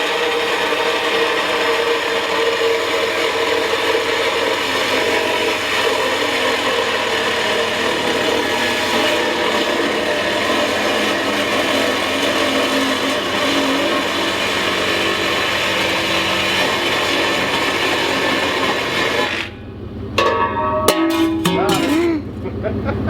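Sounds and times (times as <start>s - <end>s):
power saw cutting: 0.0s - 19.7s.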